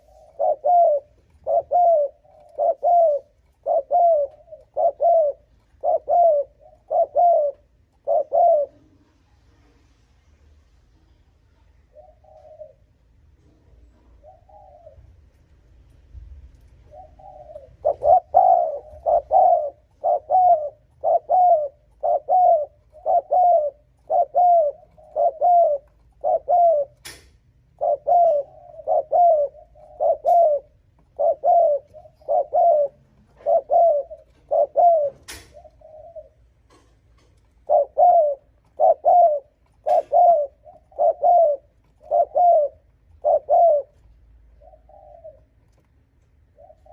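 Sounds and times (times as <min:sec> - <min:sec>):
dove cooing: 0:00.0 - 0:09.2, 0:11.9 - 0:13.1, 0:14.0 - 0:15.4, 0:16.8 - 0:46.9.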